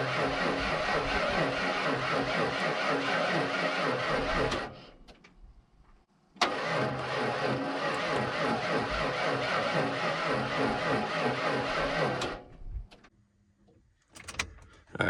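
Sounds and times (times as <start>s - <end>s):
engine starter cranking: 0.0s - 5.4s, 6.4s - 12.5s, 14.1s - 14.9s.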